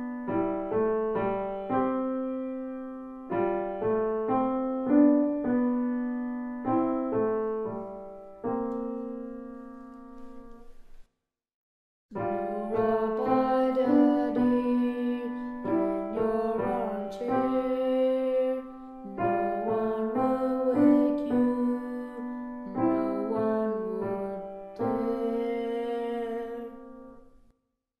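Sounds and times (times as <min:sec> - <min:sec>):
solo piano piece: 0:00.0 - 0:11.1, 0:12.1 - 0:27.5.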